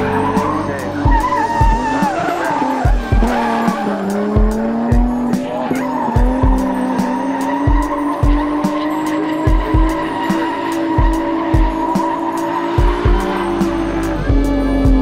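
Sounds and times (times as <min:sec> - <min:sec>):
background music with steady beat: 0:00.0 - 0:15.0
car engine revving high: 0:00.0 - 0:15.0
tyres skidding: 0:00.0 - 0:15.0.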